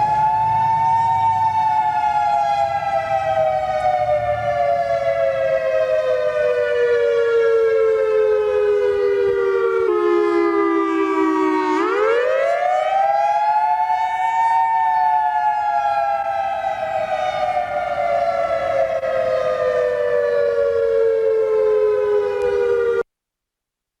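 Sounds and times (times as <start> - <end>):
fire siren wailing: 0.0 - 23.1.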